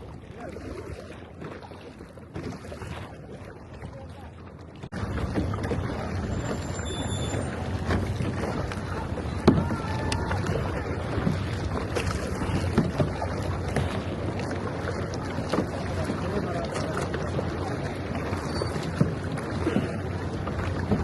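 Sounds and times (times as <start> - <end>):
kayak paddles in water: 0.0 - 21.0.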